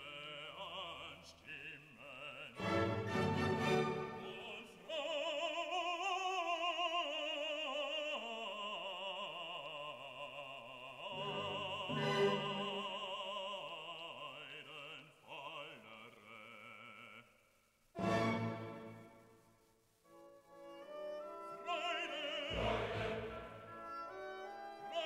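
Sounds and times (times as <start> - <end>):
operatic singing: 0.0 - 17.3, 20.6 - 25.0.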